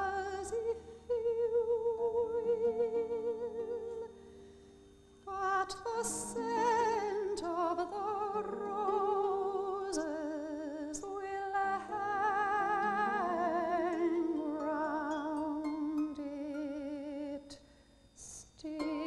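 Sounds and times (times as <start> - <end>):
woman singing a slow ballad: 0.0 - 4.2, 5.3 - 17.6, 18.2 - 19.0
harp: 0.0 - 19.0.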